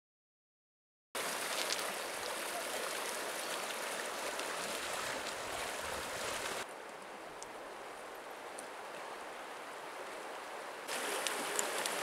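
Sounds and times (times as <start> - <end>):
river water rushing around legs: 1.2 - 12.0.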